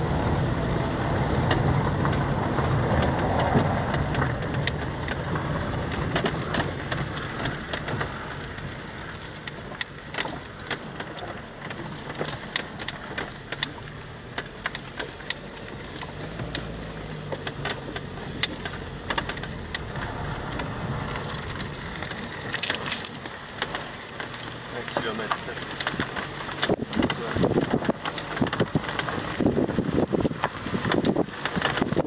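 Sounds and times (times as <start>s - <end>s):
car engine and tyre rumble: 0.0s - 32.0s
gravel ticking and rattling: 0.0s - 32.0s.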